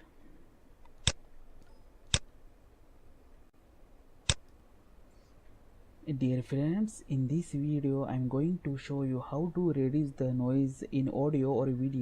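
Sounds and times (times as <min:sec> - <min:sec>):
faint low background hiss: 0:00.0 - 0:12.0.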